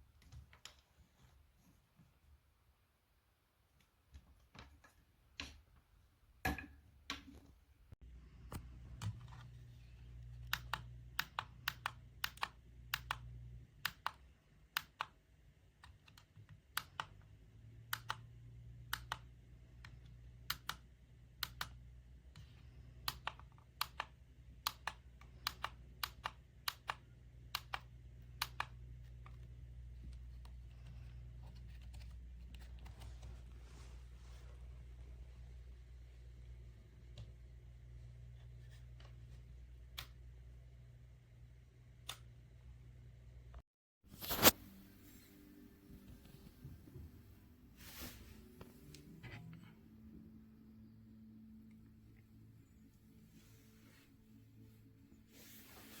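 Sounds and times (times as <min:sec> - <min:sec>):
low steady hum: 0:06.6 - 0:56.0.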